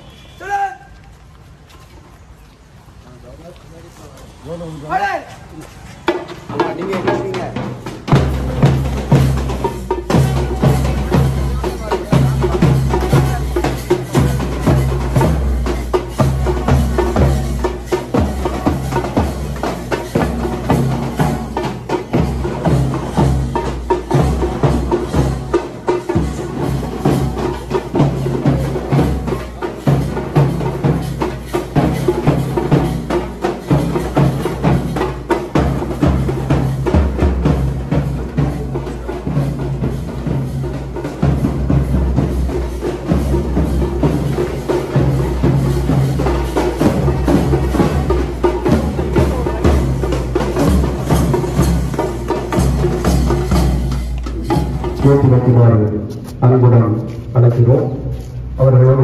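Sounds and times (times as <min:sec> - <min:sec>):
marching drums: 0:03.4 - 0:59.0
bass drum: 0:06.2 - 0:58.3.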